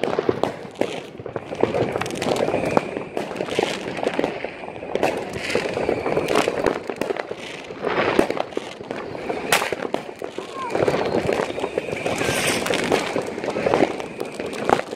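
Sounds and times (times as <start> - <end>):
fireworks and firecrackers banging: 0.0 - 14.9.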